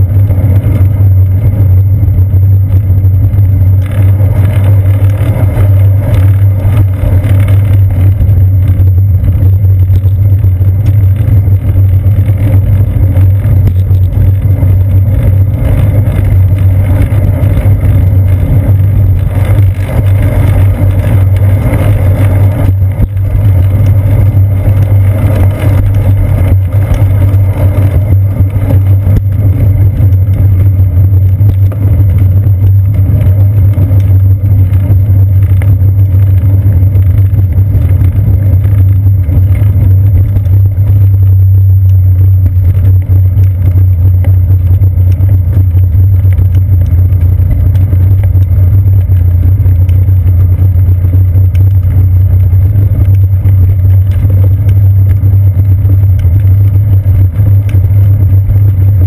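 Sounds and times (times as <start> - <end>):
road vibration and wind rumble: 0.0 - 59.0.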